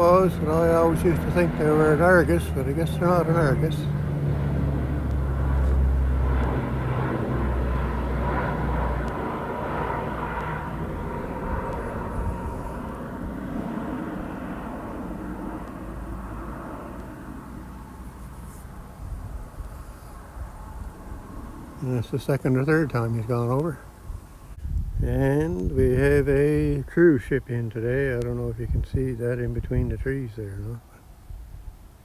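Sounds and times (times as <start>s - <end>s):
airplane engine drone: 0.0s - 32.0s.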